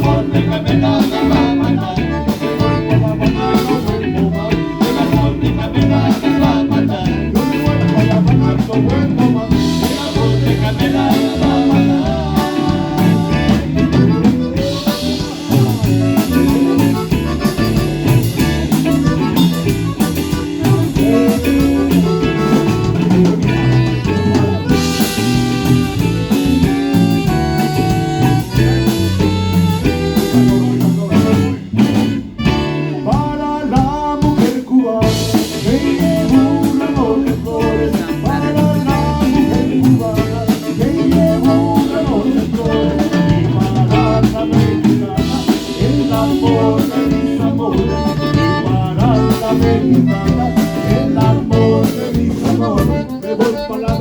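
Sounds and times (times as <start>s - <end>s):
live band playing cumbia: 0.0s - 54.0s.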